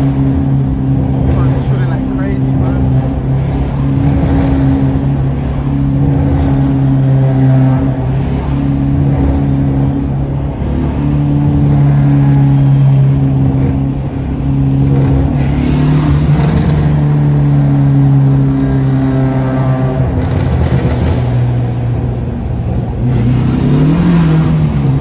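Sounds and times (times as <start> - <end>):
car engine droning: 0.0 - 25.0
road noise: 0.0 - 25.0.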